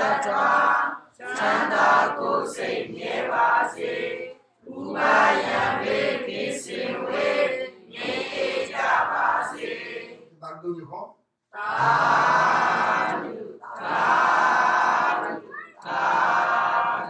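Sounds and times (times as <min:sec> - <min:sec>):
congregation chanting in unison: 0:00.0 - 0:10.6, 0:11.5 - 0:17.0.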